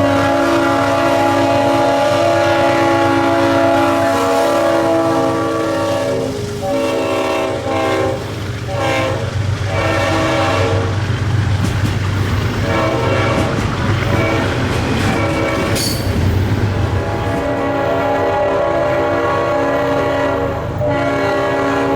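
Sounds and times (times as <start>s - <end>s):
locomotive air horn blasts: 0.0s - 11.0s, 12.6s - 16.1s, 16.9s - 21.9s
passing train rumble: 0.0s - 21.9s.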